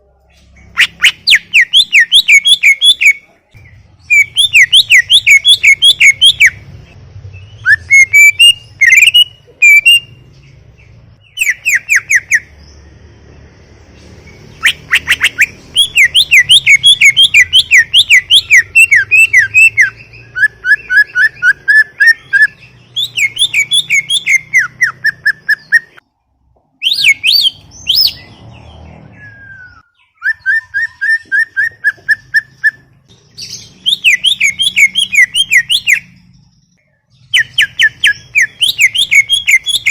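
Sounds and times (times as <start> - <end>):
bird singing fast chattering phrases: 0.4 - 12.8, 13.8 - 26.0, 29.9 - 39.9.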